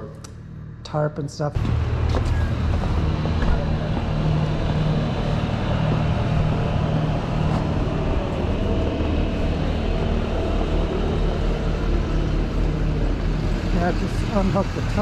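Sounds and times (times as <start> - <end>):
diesel engine idling: 1.6 - 15.0.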